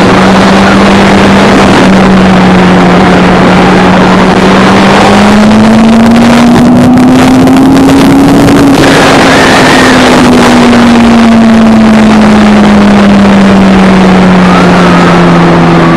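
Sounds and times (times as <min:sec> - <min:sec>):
motorcycle engine running: 0:00.0 - 0:15.9
wind rush on microphone: 0:00.0 - 0:15.9.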